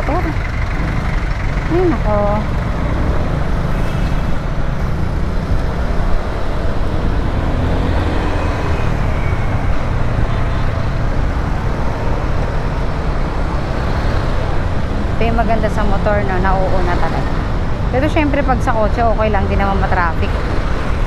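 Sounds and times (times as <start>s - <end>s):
surrounding traffic: 0.0s - 21.0s
wind and road noise: 0.0s - 21.0s.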